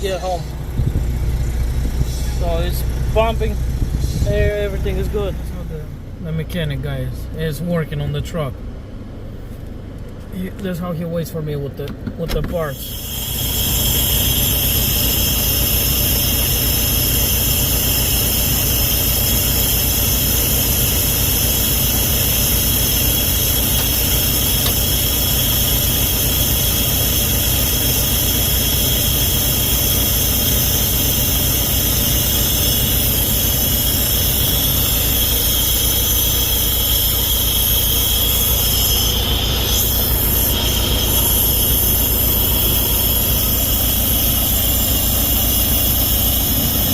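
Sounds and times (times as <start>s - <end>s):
high-pitched whine: 0.0s - 8.6s, 12.5s - 46.9s
truck diesel engine idling: 0.0s - 10.2s, 12.6s - 46.9s.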